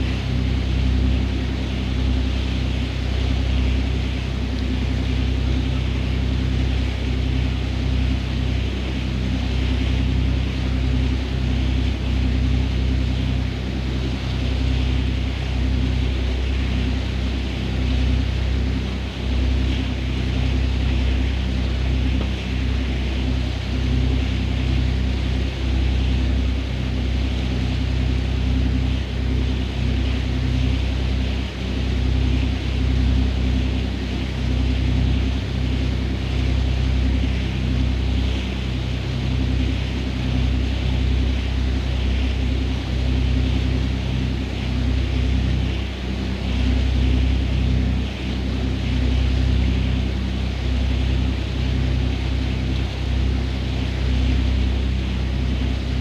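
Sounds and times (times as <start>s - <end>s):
boat engine humming: 0.0s - 56.0s
wind: 0.0s - 56.0s.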